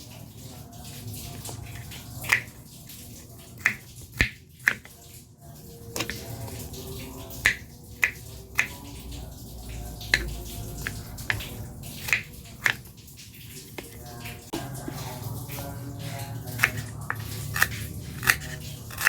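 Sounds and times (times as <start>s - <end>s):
faint water sounds: 0.0s - 19.0s
kitchen clicks and taps: 1.2s - 5.1s, 5.8s - 19.0s.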